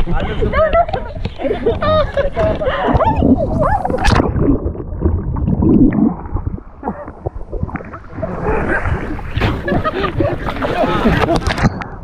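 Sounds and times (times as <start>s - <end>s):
underwater gurgling and sloshing: 0.5s - 12.0s.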